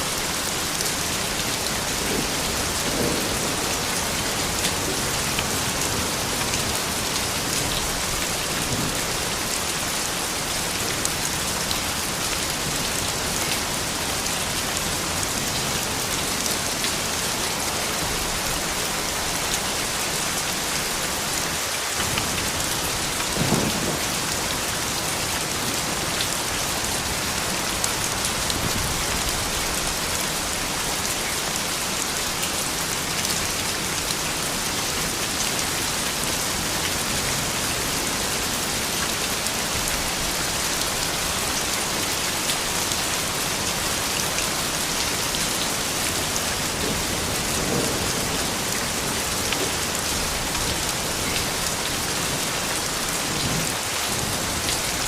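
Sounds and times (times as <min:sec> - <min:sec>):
dense rain falling: 0:00.0 - 0:55.0.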